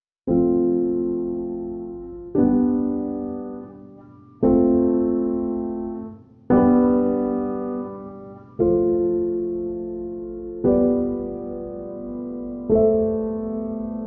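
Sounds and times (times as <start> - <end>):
slow piano chords: 0.3 - 14.0.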